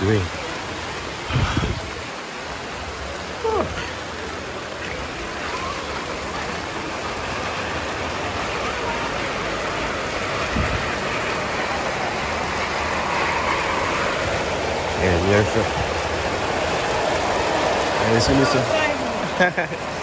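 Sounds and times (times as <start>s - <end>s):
heavy rain on a flooded street: 0.0s - 20.0s.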